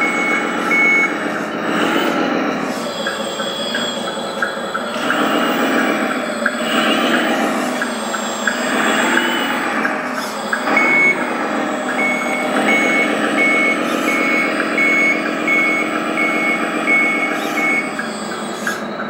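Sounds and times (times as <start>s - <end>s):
electronic reversing beeper: 0.0s - 19.0s
simulated engine running: 0.0s - 19.0s.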